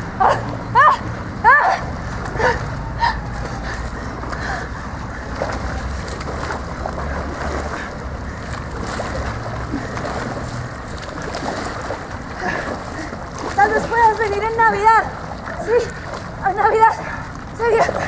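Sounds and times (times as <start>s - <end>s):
water sloshing and lapping: 0.0s - 18.0s.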